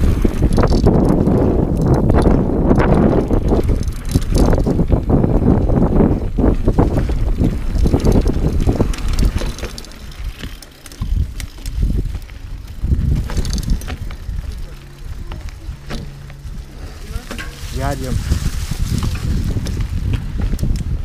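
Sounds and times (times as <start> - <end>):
bike rattling and knocking: 0.0 - 21.0
tyres rumbling over dirt: 0.0 - 21.0
wind buffeting microphone: 0.0 - 21.0.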